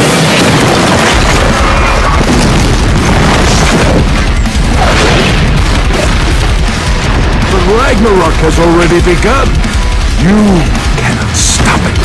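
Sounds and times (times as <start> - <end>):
fiery explosion: 0.0 - 12.0
music: 0.0 - 12.0
rumbling destruction: 0.0 - 12.0.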